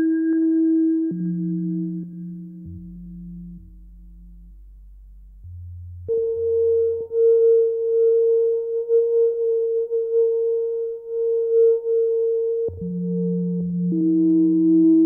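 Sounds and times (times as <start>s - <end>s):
low humming electronic tones: 0.0s - 15.0s.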